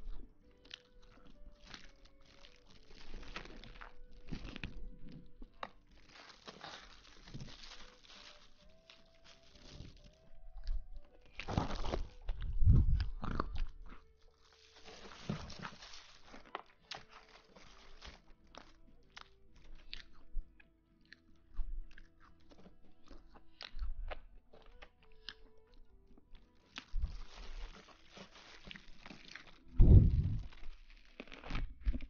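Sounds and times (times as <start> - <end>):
close crunching and rustling: 0.0 - 20.2, 21.9 - 32.0.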